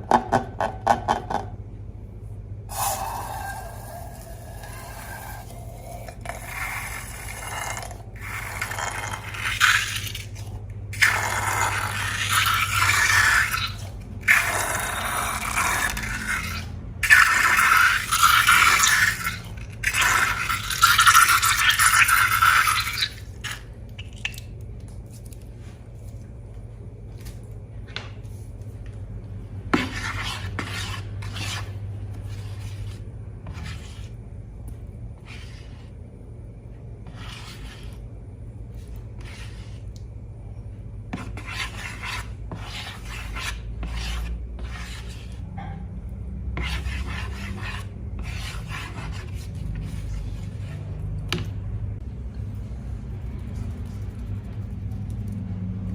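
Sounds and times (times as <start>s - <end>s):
slime being scraped and stirred: 2.7s - 26.3s, 29.6s - 40.5s, 41.1s - 55.9s.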